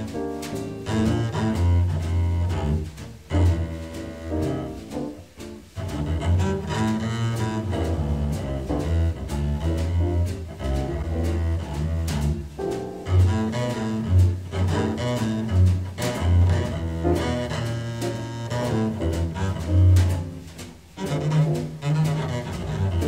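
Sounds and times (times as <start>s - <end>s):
double bass playing deep notes: 0.0s - 23.0s
jazz band accompanying: 0.0s - 23.0s.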